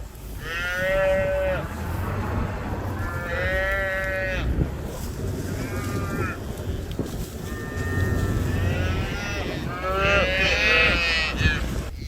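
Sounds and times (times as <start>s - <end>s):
low steady rumble: 0.0s - 11.9s
cattle bawling: 0.4s - 6.4s, 7.4s - 11.7s.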